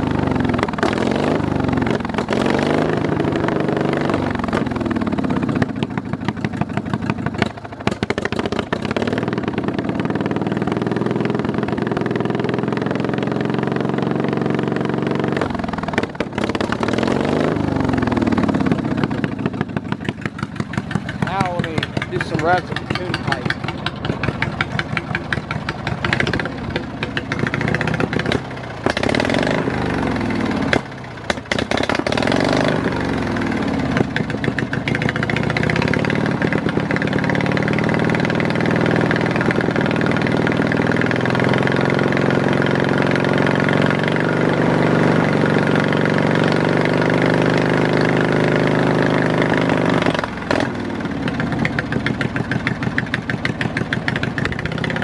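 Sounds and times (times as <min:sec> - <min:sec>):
lawn mower engine revving: 0:00.0 - 0:55.0.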